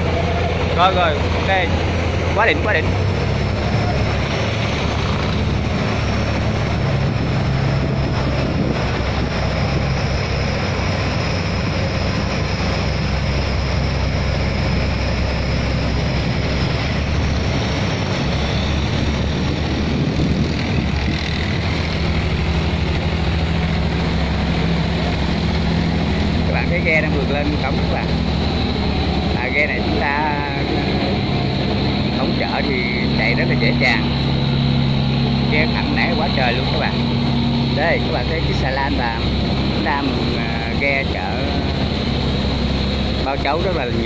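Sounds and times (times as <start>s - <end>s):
boat engines running: 0.0s - 44.0s
water rushing: 0.0s - 44.0s.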